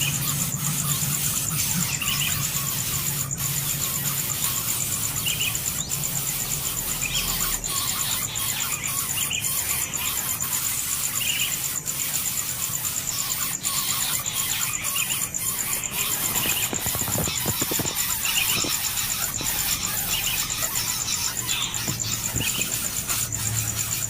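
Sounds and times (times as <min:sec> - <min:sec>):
high bird chirps: 0:00.0 - 0:24.0
pulsing insect trill: 0:00.0 - 0:24.0.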